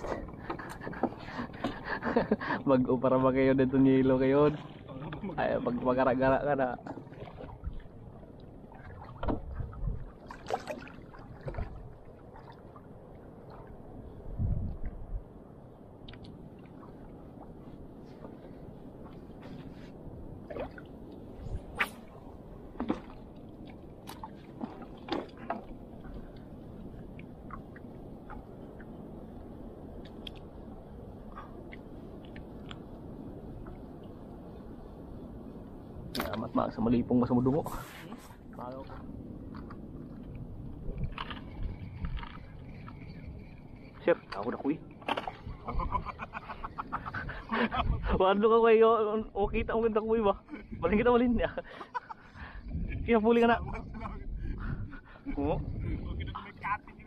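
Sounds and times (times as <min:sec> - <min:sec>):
water and wind noise: 0:00.0 - 0:57.0.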